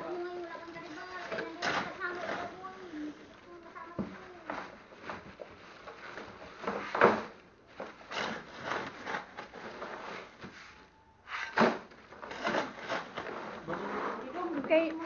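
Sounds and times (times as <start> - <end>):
plastic rustling: 0.0 - 15.0.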